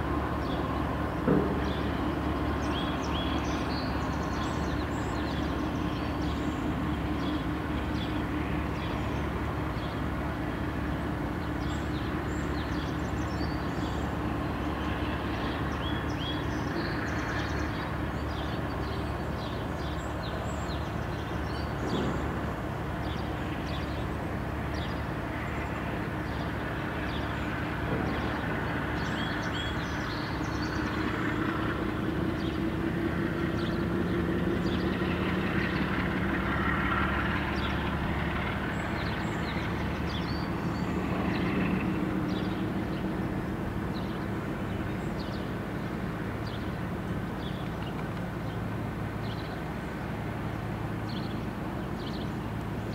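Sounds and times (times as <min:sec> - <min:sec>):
distant diesel locomotive drone: 0:00.0 - 0:52.9.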